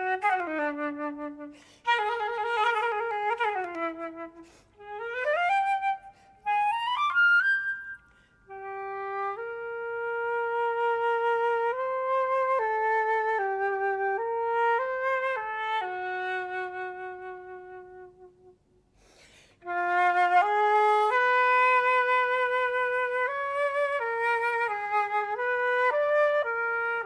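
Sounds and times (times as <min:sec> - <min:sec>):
flute melody with vibrato: 0:00.0 - 0:18.5, 0:19.6 - 0:27.0.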